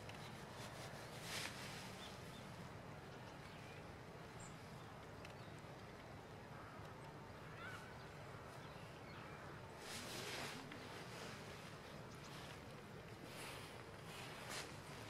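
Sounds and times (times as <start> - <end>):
outdoor background hiss: 0.0 - 15.0
distant bird chirps: 1.8 - 15.0.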